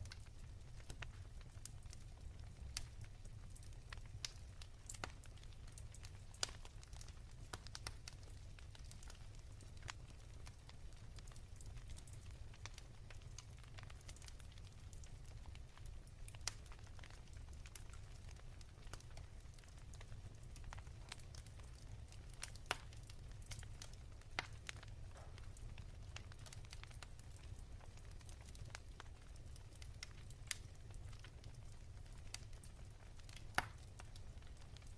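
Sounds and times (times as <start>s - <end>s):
wood fire crackling softly: 0.0s - 34.9s.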